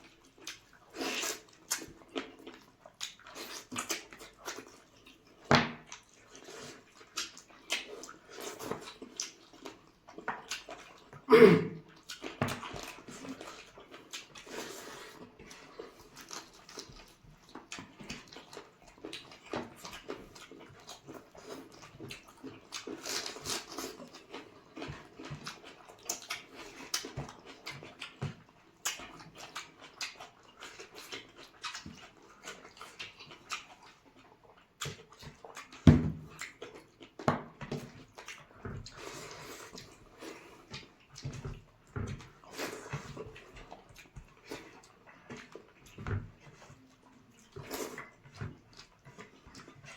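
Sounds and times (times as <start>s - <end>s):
wet chewing and slurping: 0.0s - 49.9s.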